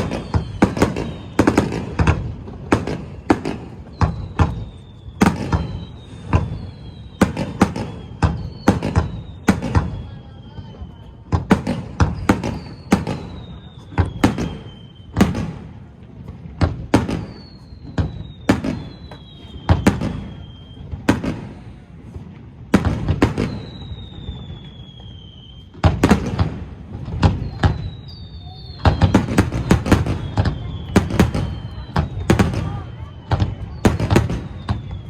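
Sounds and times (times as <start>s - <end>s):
fireworks bangs: 0.0s - 35.0s
fireworks whistles: 0.0s - 35.0s.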